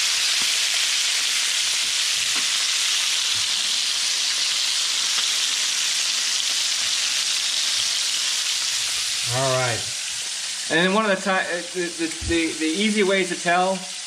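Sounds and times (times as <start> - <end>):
fish sizzling in a skillet: 0.0 - 14.0.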